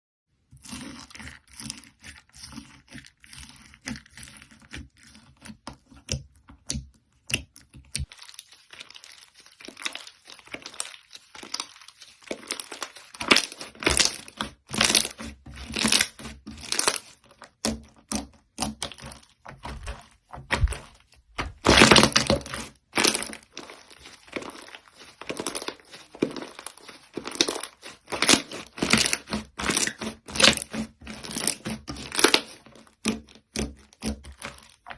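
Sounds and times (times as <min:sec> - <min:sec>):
slime squishing and popping: 0:00.7 - 0:34.9.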